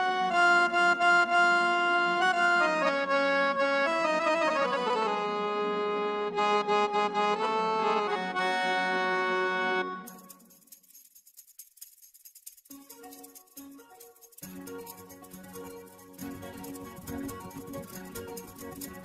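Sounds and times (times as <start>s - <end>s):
instrumental music with held chords: 0.0s - 19.0s.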